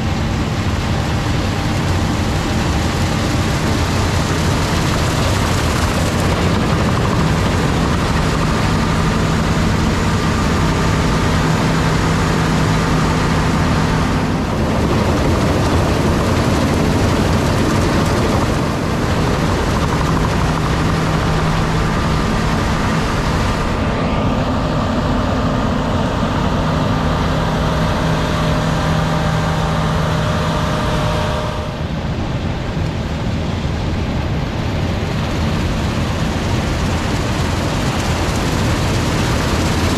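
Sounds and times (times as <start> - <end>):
broad rushing noise: 0.0 - 39.9
diesel engine drone: 0.0 - 39.9.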